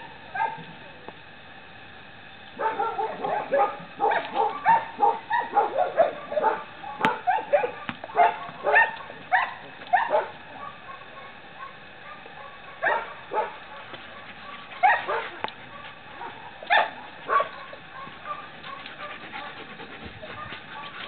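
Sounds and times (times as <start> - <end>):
dog barking: 0.4 - 0.6, 2.6 - 19.6, 20.3 - 21.0.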